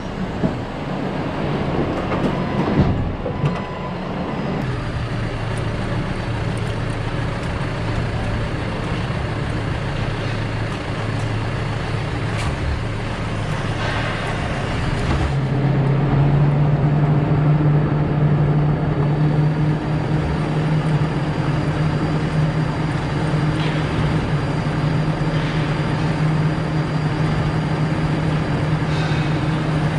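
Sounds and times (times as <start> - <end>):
forklift engine running: 0.0 - 29.9.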